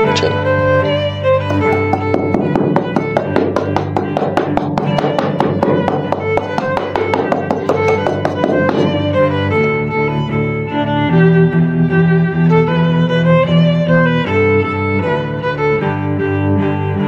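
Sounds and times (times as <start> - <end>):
plucked string instrumental music: 0.0 - 17.0.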